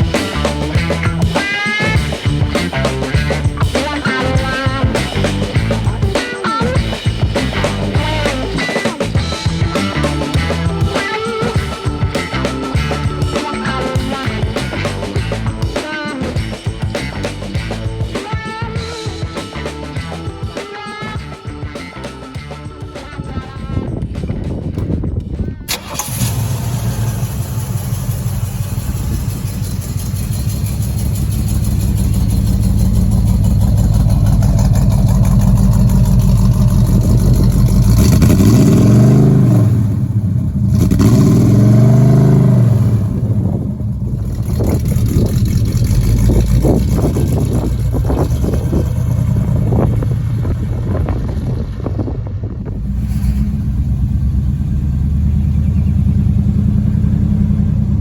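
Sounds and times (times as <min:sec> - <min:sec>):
car engine revving: 0:00.0 - 0:18.1, 0:25.7 - 0:58.0.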